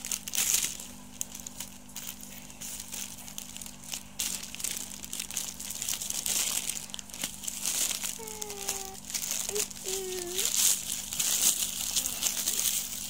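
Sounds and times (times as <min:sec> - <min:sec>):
plastic mailer bag crinkling: 0:00.0 - 0:13.0.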